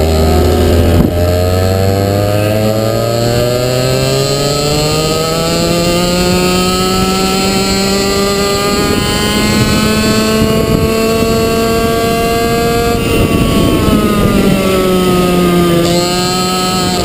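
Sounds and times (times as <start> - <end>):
two-stroke kart engine revving: 0.0 - 17.0.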